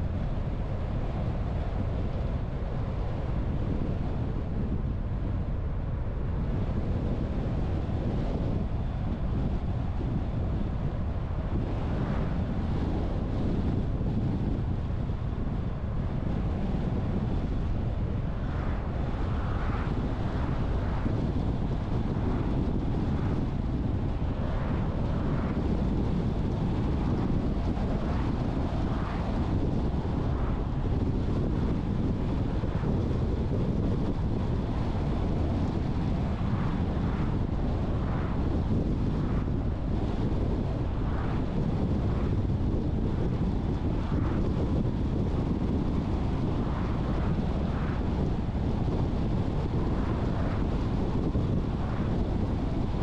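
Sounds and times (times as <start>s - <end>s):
car road and wind noise: 0.0s - 53.0s.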